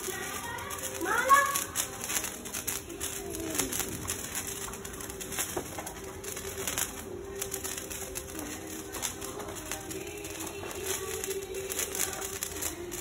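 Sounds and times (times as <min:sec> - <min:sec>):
sparklers fizzing and crackling: 0:00.0 - 0:13.0.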